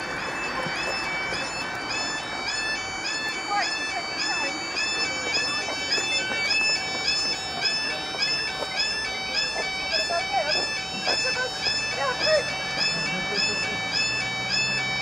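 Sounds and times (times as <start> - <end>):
level crossing alarm warble: 0.0 - 15.0.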